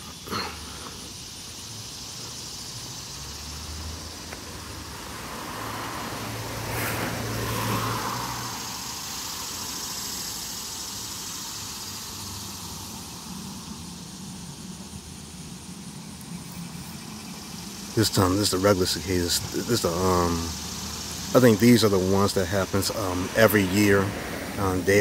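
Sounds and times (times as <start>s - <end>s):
car passing: 0.0s - 25.0s
cicadas buzzing: 0.0s - 25.0s.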